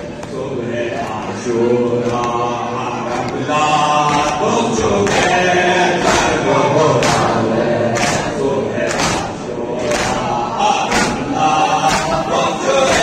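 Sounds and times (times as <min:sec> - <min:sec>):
voices chanting on long notes: 0:00.0 - 0:13.0.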